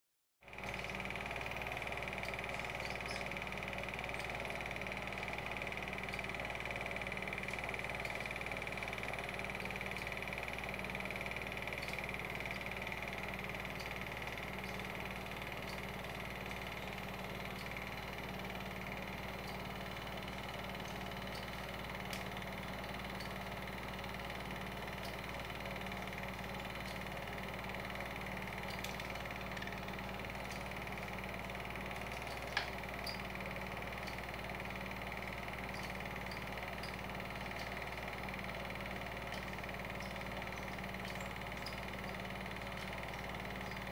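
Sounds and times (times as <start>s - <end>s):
film projector motor hum: 0.4s - 43.9s
projector ticking: 0.5s - 43.9s.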